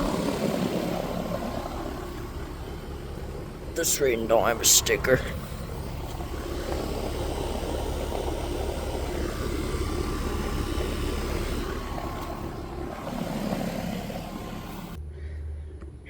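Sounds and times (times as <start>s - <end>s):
heat pump fan noise: 0.0s - 15.0s
low hum: 0.0s - 16.0s.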